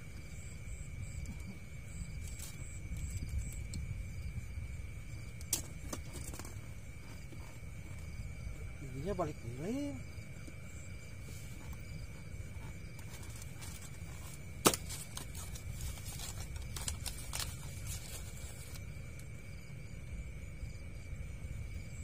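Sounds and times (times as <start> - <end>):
constant high whine: 0.0 - 22.0
steady low rumble: 0.0 - 22.0.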